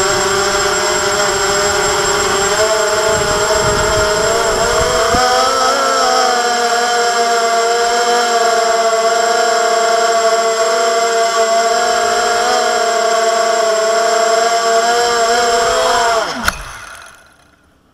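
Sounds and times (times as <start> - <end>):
drone propellers whining: 0.0 - 17.8.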